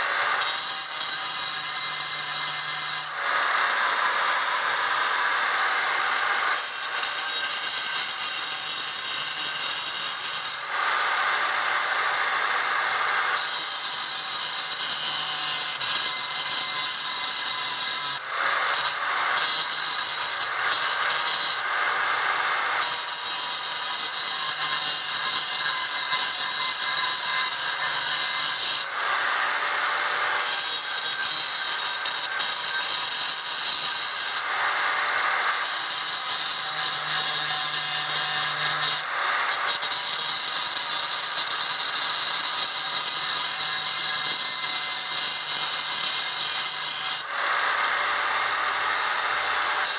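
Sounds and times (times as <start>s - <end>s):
angle grinder grinding stone: 0.0s - 49.9s.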